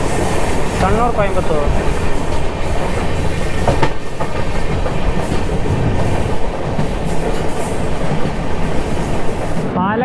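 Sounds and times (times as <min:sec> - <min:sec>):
clickety-clack over rail joints: 0:00.0 - 0:10.0
train wheels on rails: 0:00.0 - 0:10.0.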